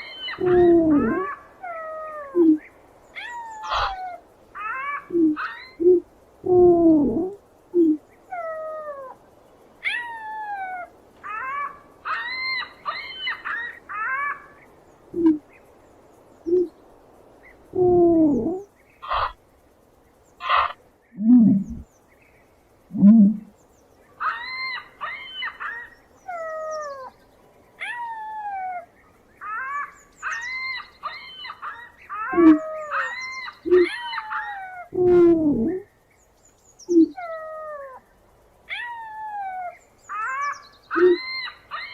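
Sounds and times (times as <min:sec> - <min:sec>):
high chattering calls: 0:00.0 - 0:41.9.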